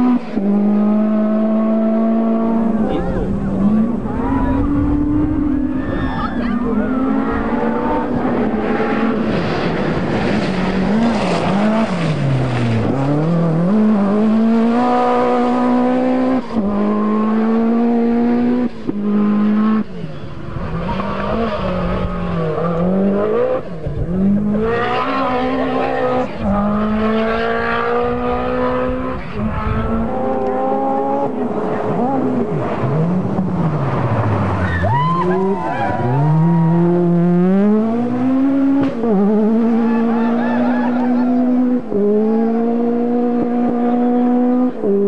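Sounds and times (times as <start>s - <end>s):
rally car engine at full throttle: 0.0s - 45.0s.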